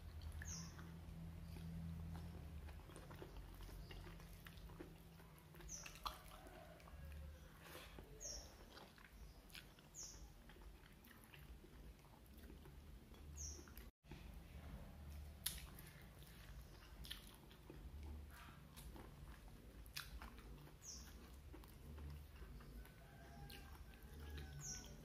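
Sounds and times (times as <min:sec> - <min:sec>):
person chewing and lip-smacking: 0:00.0 - 0:13.9, 0:15.1 - 0:25.0.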